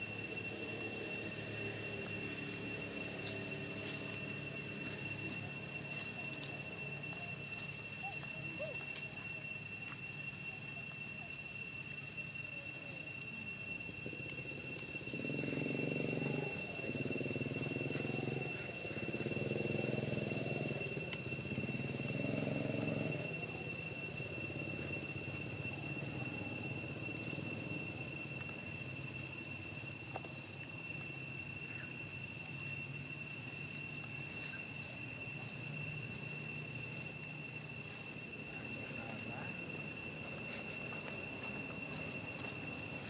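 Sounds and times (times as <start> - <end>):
high-pitched insect drone: 0.0 - 43.0
low engine-like hum: 0.0 - 43.0.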